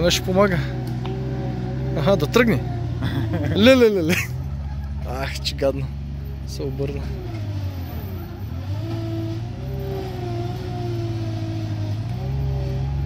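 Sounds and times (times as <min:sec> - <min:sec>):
diesel engines under load: 0:00.0 - 0:13.0.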